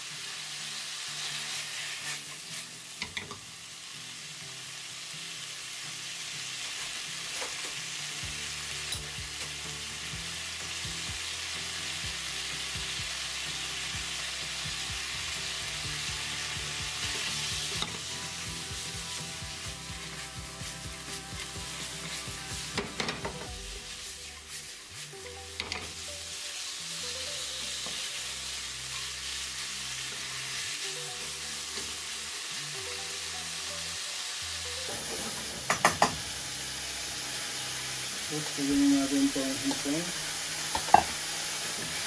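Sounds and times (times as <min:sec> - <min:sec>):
food sizzling in a wok: 0:00.0 - 0:42.0.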